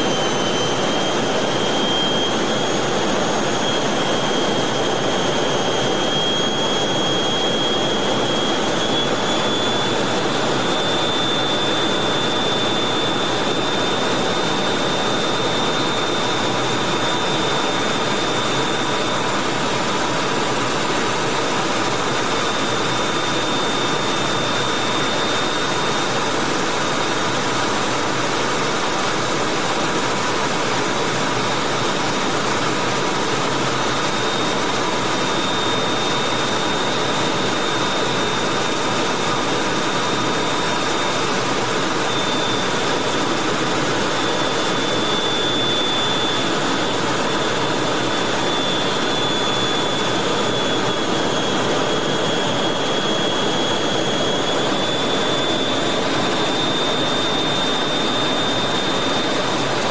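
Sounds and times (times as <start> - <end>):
jet engine running: 0.0 - 59.9
thin high whine: 0.0 - 59.9.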